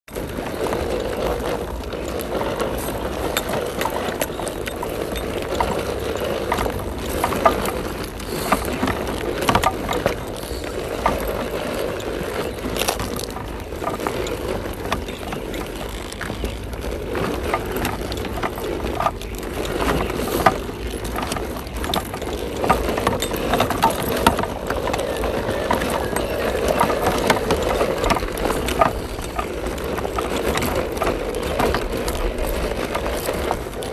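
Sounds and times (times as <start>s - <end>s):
tyres crunching over dirt clods: 0.1s - 33.9s.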